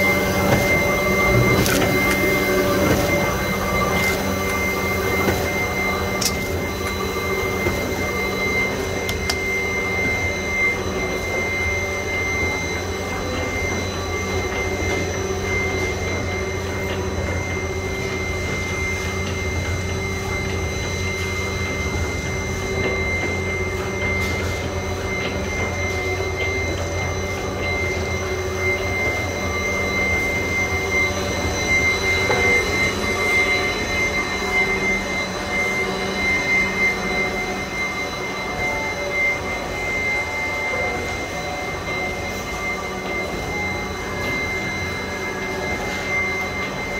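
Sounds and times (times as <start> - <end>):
printing machine humming and whining: 0.0 - 46.9.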